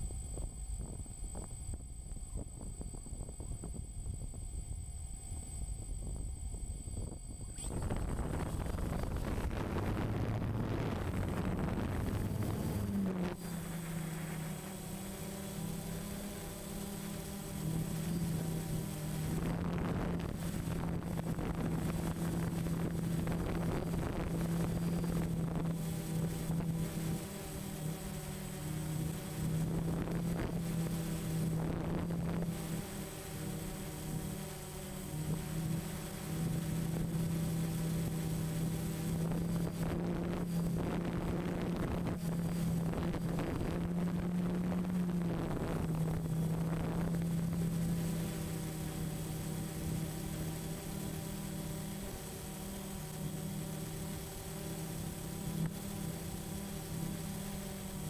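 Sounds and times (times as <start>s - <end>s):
wind rushing over microphone: 0.0s - 52.3s
drone propellers humming: 0.0s - 58.0s.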